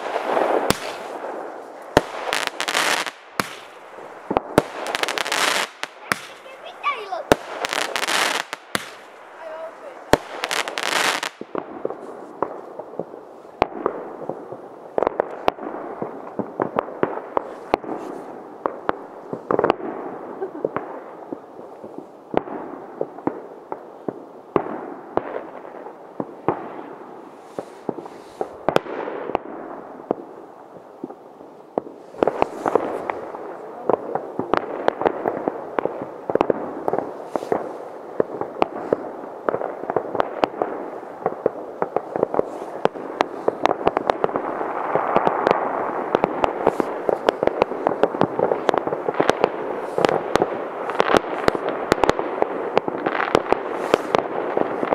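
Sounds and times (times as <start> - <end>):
distant explosions rumbling: 0.0 - 27.0, 31.0 - 54.9
fireworks bangs: 0.0 - 54.9.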